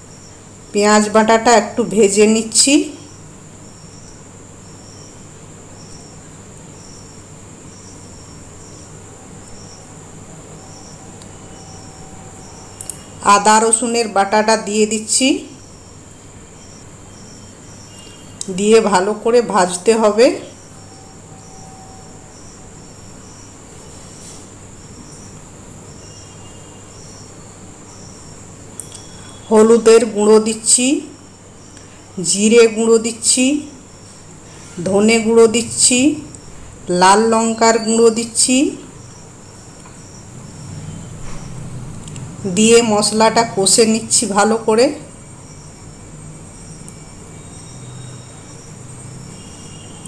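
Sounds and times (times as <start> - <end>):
crickets chirping: 0.0 - 50.0
steady high whine: 0.0 - 50.0.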